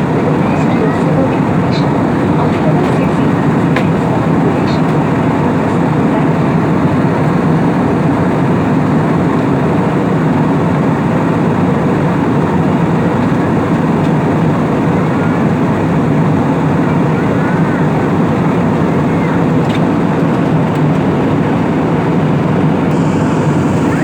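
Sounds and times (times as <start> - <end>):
airliner cabin engine rush: 0.0 - 24.0.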